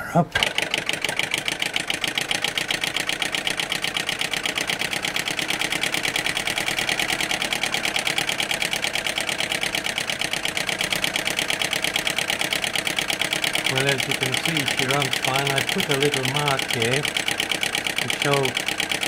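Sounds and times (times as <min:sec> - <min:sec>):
model engine running with rapid clatter: 0:00.4 - 0:19.0.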